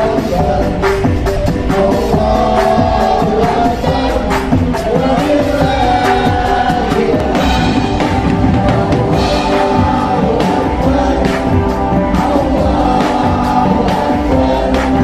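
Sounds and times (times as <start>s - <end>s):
guitars and bass guitar: 0.0s - 15.0s
person singing: 0.0s - 15.0s
steady drum beat: 0.0s - 15.0s.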